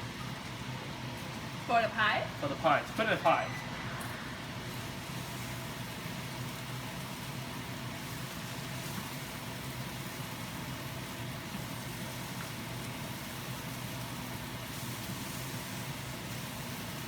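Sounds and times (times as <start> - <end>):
machine running with low hum: 0.0 - 17.0.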